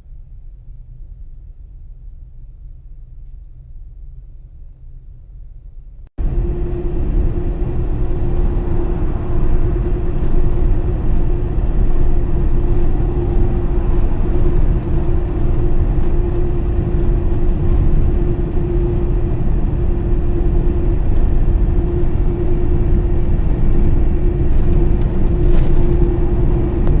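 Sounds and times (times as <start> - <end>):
vehicle road and engine rumble: 4.8 - 27.0.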